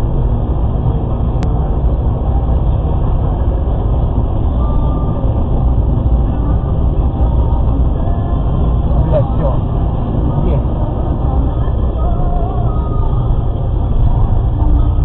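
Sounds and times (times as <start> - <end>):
moving road vehicle noise: 0.0 - 15.0.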